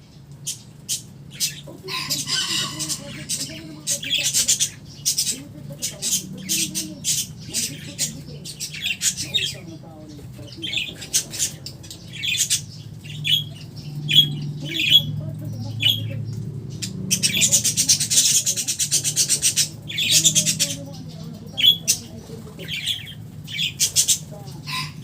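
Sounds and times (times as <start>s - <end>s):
birds squawking: 0.0s - 25.0s.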